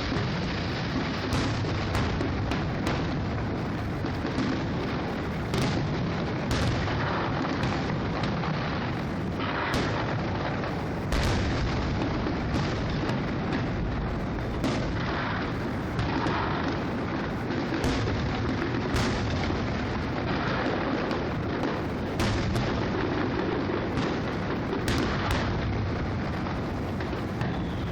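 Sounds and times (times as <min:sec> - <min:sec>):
firework crackle: 0:00.0 - 0:27.9
firework shells booming: 0:00.0 - 0:27.9.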